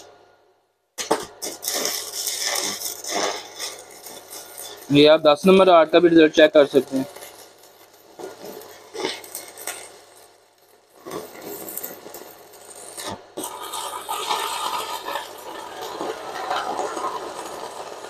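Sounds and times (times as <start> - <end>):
welding arc crackling and hissing: 1.0 - 18.0.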